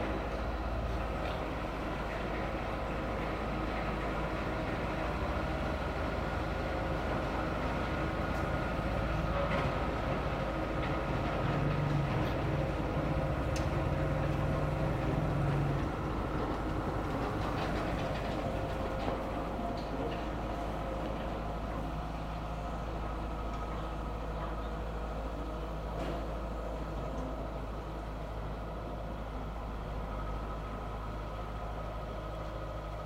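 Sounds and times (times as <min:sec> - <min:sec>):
excavator diesel engine rumbling: 0:00.0 - 0:33.0.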